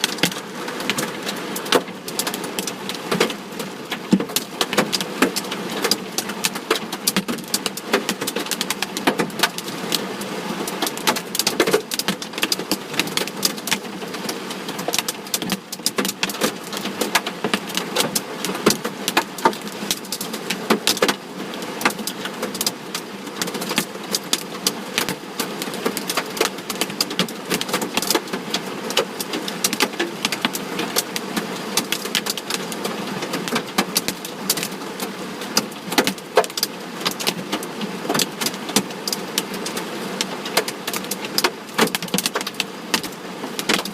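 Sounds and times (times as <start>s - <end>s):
hail striking a vehicle: 0.0s - 10.0s, 10.7s - 21.2s, 21.8s - 43.9s.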